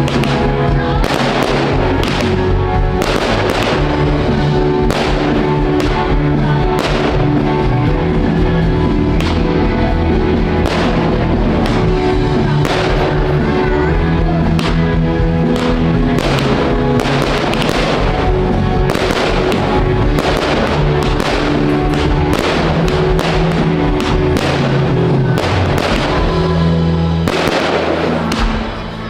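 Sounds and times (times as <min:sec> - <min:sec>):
loud music with sustained notes: 0:00.0 - 0:29.0.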